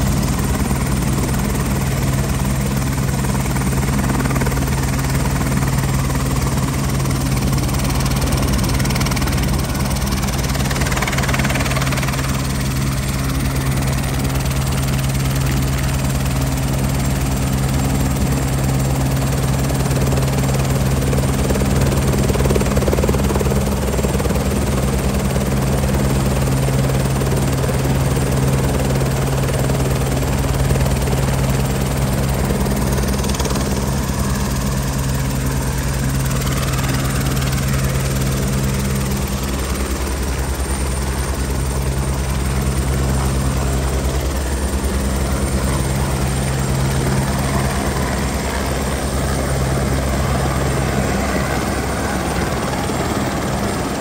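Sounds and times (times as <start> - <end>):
helicopter turbine and rotor hum: 0.0 - 54.0.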